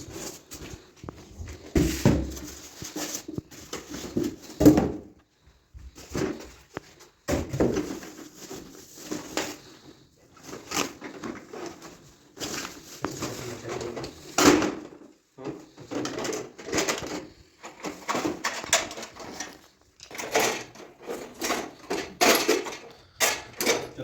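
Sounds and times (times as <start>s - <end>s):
hard objects knocking and clattering: 0.0s - 5.2s, 5.9s - 9.8s, 10.4s - 24.0s.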